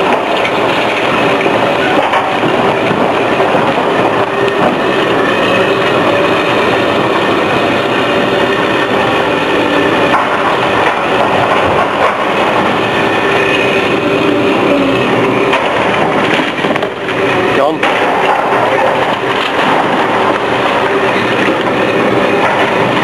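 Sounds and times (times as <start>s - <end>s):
heavy machinery rumbling: 0.0s - 23.0s.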